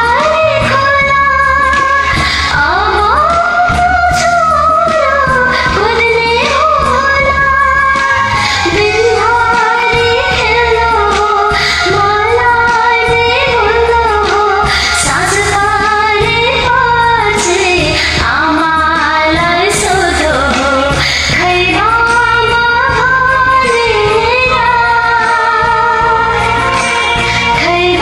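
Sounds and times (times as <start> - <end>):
karaoke backing track with beat: 0.0 - 28.0.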